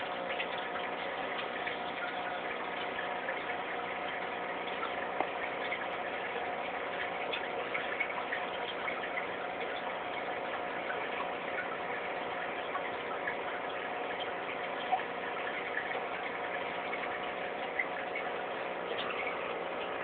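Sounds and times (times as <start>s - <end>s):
aquarium air stone bubbling: 0.0s - 20.0s
steady hum: 0.0s - 20.0s.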